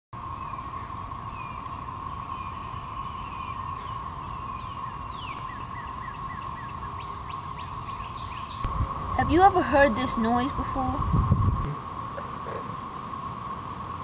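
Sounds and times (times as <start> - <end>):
birds chirping: 0.2 - 12.8
cicadas droning: 0.2 - 14.0.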